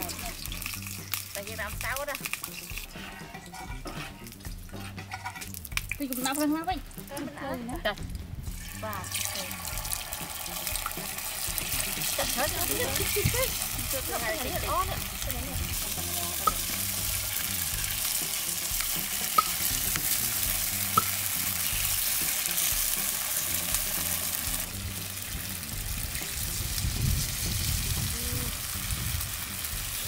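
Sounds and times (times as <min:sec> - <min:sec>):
batter sizzling in pans: 0:00.0 - 0:30.0.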